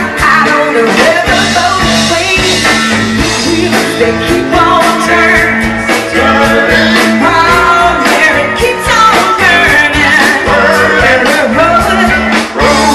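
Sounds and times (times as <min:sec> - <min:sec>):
drum kit beat: 0:00.0 - 0:12.9
electric guitar: 0:00.0 - 0:12.9
woman singing lead: 0:00.0 - 0:12.9.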